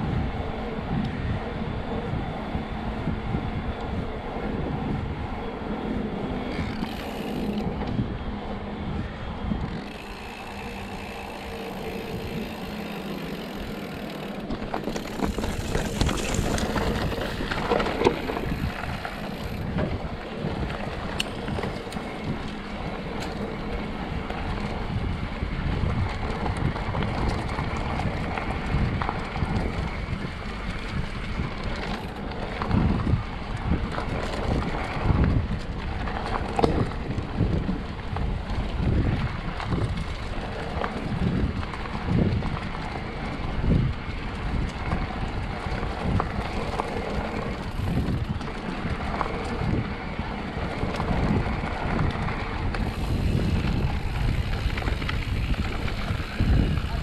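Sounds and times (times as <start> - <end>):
bike knocking and rattling: 0.0 - 57.0
bike tyres rolling on dirt: 0.0 - 57.0
wind on microphone: 0.0 - 57.0.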